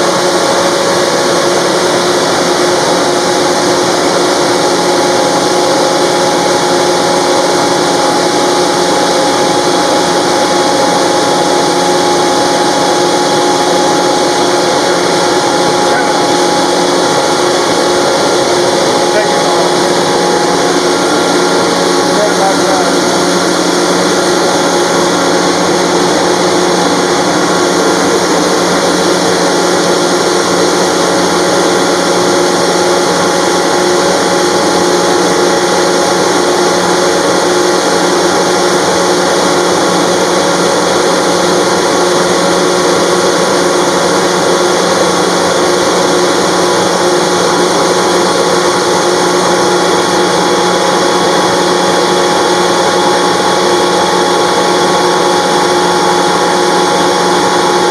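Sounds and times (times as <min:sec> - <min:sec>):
air compressor running: 0:00.0 - 0:57.9.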